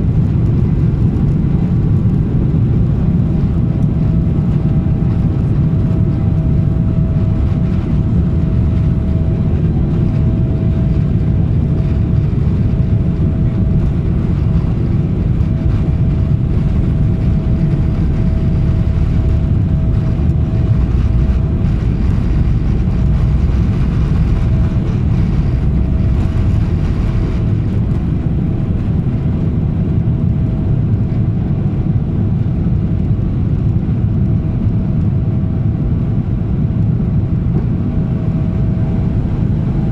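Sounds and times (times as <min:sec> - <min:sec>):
jet engines rumbling from cabin: 0:00.0 - 0:39.9.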